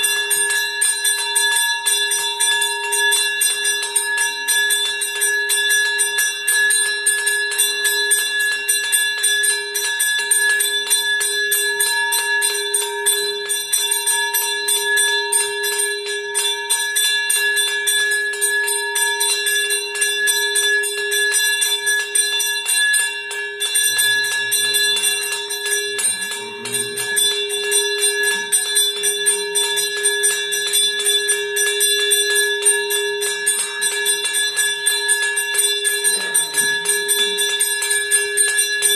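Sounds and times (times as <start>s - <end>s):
bell rung rapidly: 0.0s - 38.9s.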